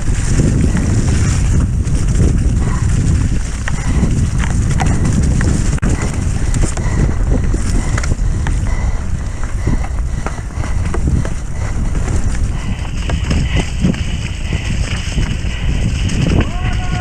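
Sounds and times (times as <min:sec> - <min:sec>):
bike chain and frame rattling: 0:00.0 - 0:17.0
tyres and wind rumbling: 0:00.0 - 0:17.0.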